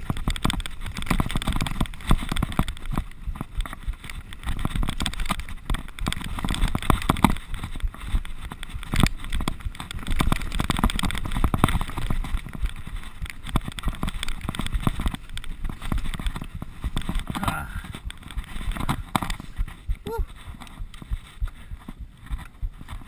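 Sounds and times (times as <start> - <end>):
bike clattering over bumps: 0.0 - 23.0.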